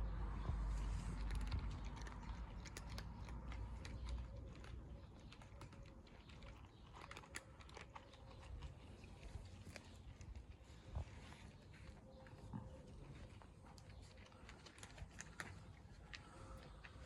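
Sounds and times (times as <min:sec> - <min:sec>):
cats chewing food: 0:00.0 - 0:17.0.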